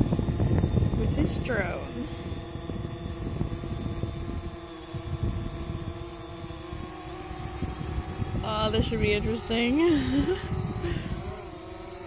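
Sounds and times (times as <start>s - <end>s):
drone propellers buzzing: 0.0s - 12.0s
wind rumbling on microphone: 0.0s - 12.0s.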